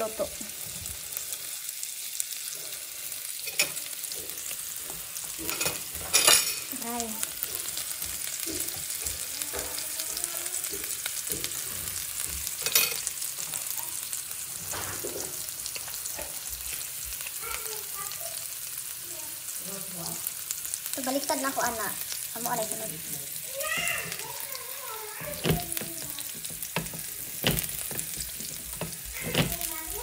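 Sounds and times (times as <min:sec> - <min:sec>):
butter sizzling around steak: 0:00.0 - 0:30.0.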